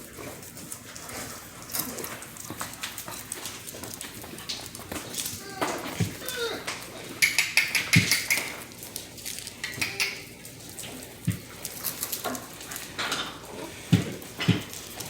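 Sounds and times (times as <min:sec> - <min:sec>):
puppies grunting: 0:01.2 - 0:15.0.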